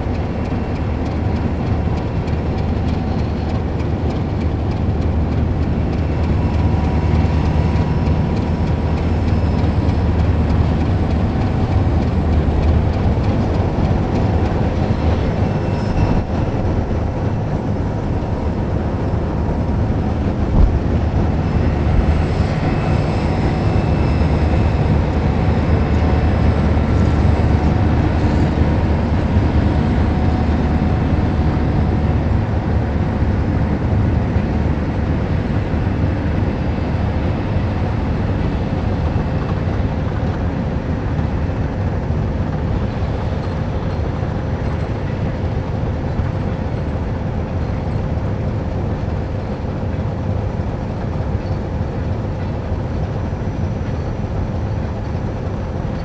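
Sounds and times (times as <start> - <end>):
diesel locomotives rumbling: 0.0 - 56.0.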